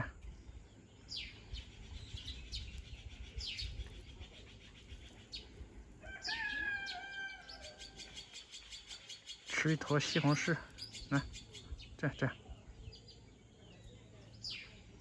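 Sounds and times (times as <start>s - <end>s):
long steady bird call: 0.0s - 15.0s.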